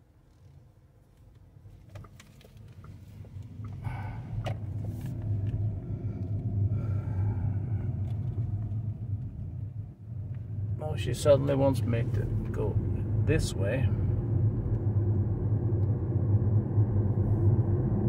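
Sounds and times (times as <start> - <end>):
car road and tyre noise: 0.0 - 18.0.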